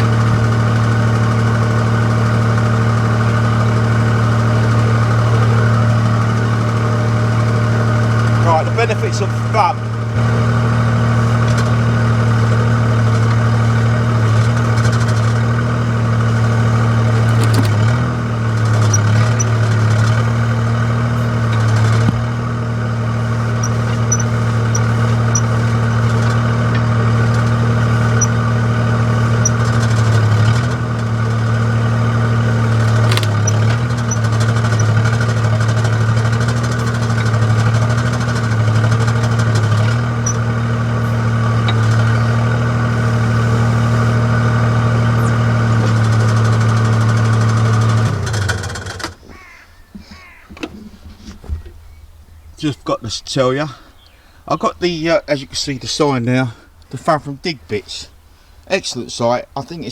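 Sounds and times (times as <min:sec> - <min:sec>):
mini digger diesel engine running: 0:00.0 - 0:59.9.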